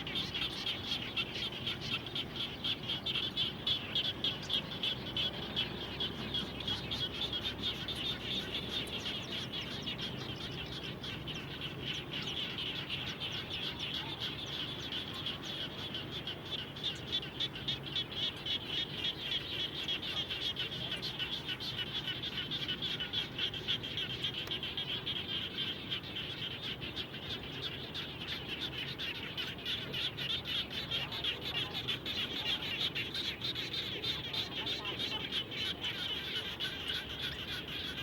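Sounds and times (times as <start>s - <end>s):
frogs chorus: 0.0s - 38.0s.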